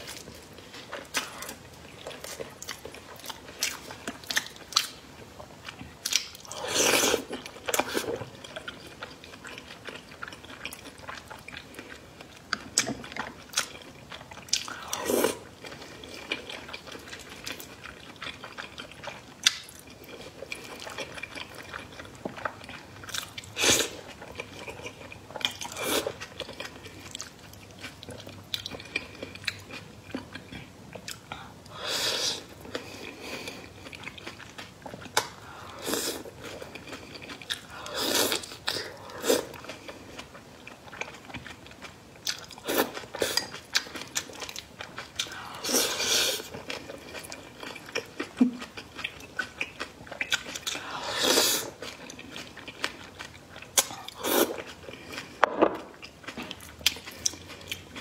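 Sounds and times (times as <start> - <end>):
person chewing with small clicks: 0.0 - 6.6, 7.2 - 31.5, 32.6 - 45.8, 46.4 - 50.9, 51.7 - 58.0.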